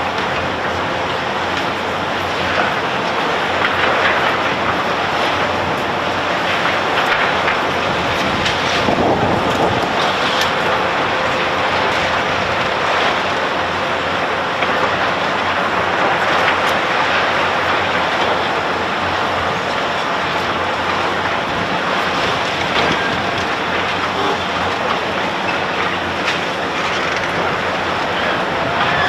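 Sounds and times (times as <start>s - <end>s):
heavy machinery din: 0.0s - 29.0s.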